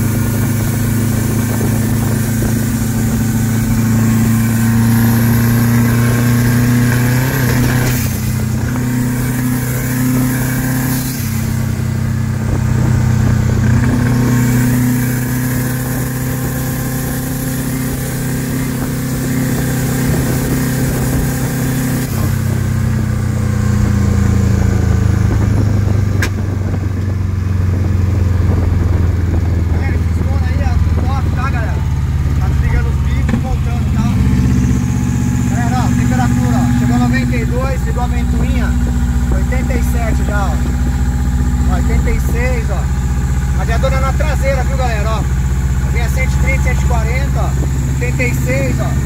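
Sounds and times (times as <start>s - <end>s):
car engine while driving: 0.0s - 49.0s.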